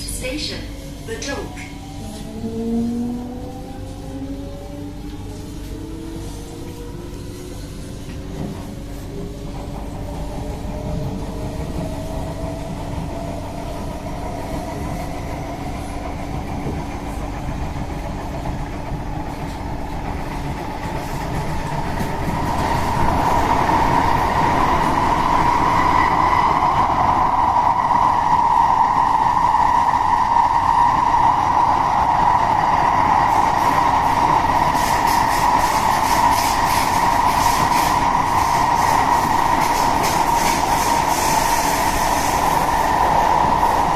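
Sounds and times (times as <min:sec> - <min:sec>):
train rumbling running noise: 0:00.0 - 0:43.9.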